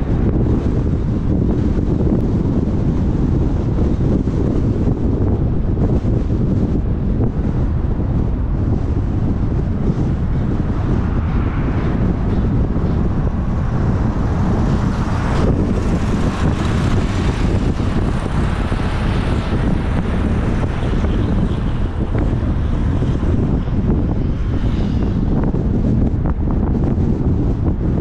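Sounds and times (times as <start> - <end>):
road and traffic noise: 0.0 - 28.0
wind rumble on microphone: 0.0 - 28.0.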